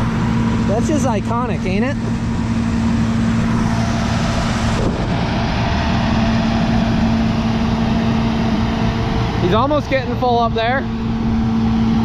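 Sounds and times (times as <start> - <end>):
combine harvester engine running: 0.0 - 12.0.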